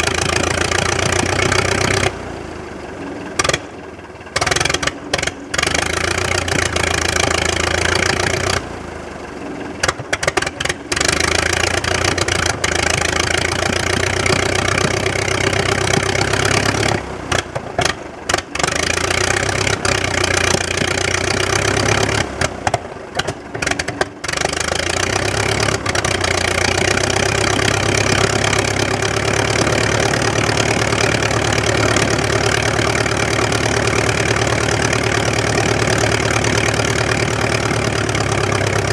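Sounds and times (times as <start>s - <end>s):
propeller aircraft engine running: 0.0s - 38.9s.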